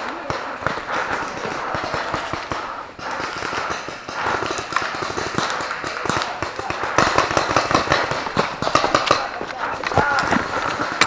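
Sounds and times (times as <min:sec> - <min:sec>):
paintball markers firing pops: 0:00.0 - 0:11.0.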